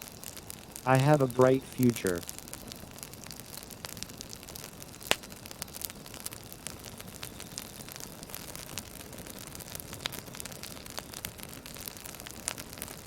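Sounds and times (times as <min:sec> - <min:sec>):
campfire hissing: 0:00.0 - 0:13.0
fire popping and snapping: 0:00.0 - 0:13.0.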